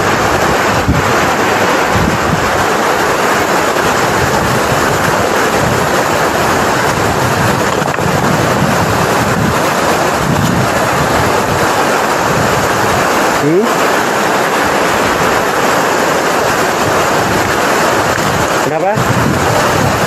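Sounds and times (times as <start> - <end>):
river water rushing over boulders: 0.0 - 20.0.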